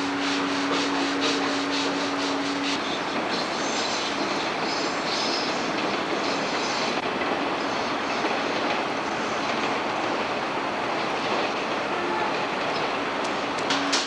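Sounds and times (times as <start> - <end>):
train wheels on track: 0.0 - 14.0.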